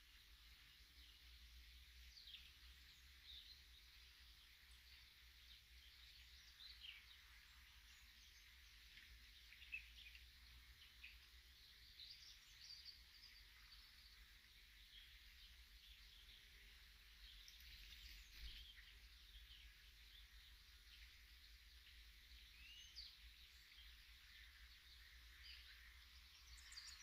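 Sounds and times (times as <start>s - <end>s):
faint birdsong: 0.0s - 27.0s.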